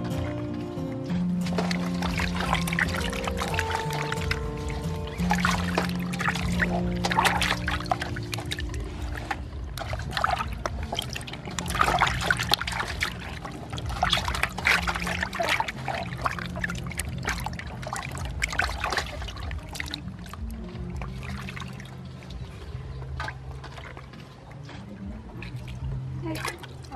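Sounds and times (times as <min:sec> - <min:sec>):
water splashing in steel basin: 0:01.3 - 0:26.9.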